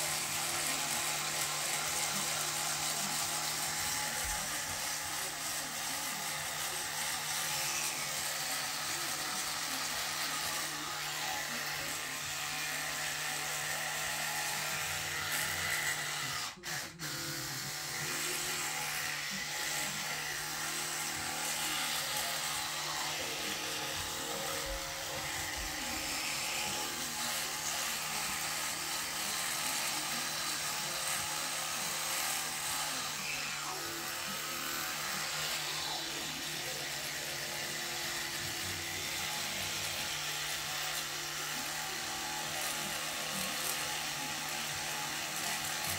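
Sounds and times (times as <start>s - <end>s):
electric toothbrush humming: 0.0s - 45.9s.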